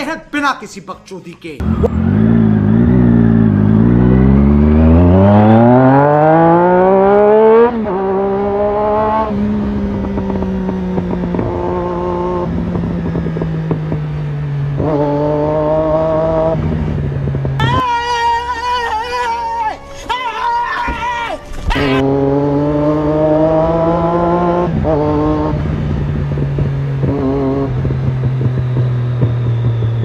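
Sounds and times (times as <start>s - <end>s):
motorcycle engine revving: 1.6s - 18.8s, 21.8s - 30.0s.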